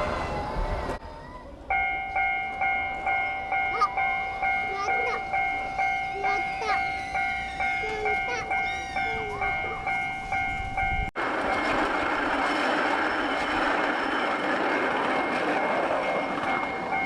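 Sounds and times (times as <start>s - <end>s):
rushing rumble of passing train: 0.0s - 17.0s
level-crossing warning bell: 1.7s - 17.0s.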